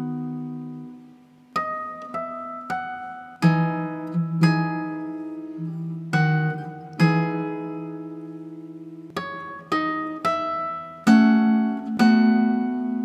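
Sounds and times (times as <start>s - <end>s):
solo guitar played slowly: 0.0s - 13.0s.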